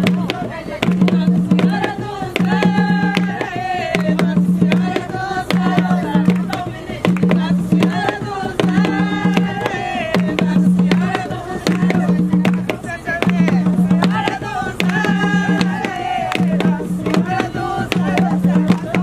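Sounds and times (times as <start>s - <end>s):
hand drums beating: 0.0s - 19.0s
low drum tone: 0.0s - 19.0s.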